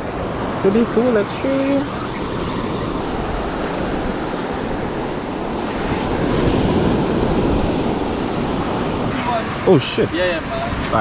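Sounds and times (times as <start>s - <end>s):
surf washing up beach: 0.0s - 11.0s
wind buffeting microphone: 0.0s - 11.0s.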